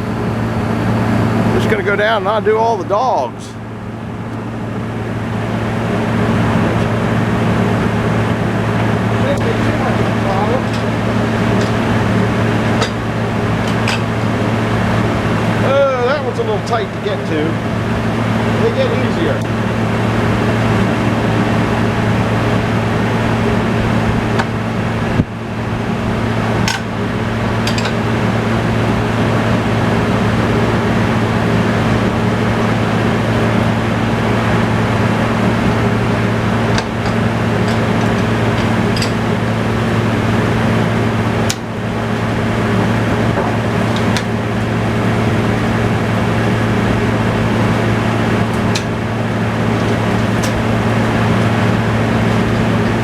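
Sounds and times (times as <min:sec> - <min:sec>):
tractor engine humming: 0:00.0 - 0:53.0.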